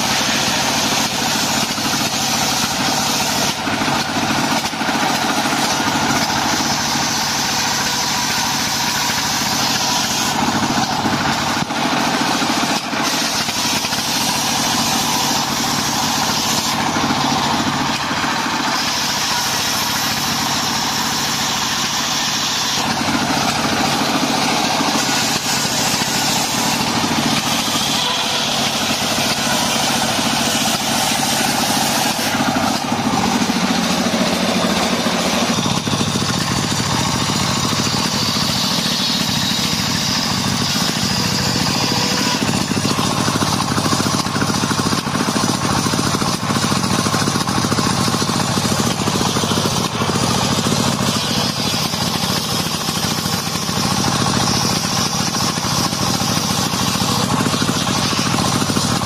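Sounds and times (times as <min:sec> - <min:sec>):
circular saw cutting wood: 0:00.0 - 0:59.0
diesel engine running: 0:00.0 - 0:59.0.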